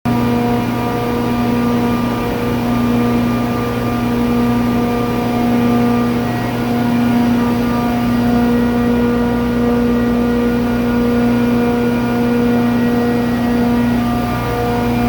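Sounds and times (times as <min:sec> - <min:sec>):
compressor humming: 0:00.1 - 0:15.0.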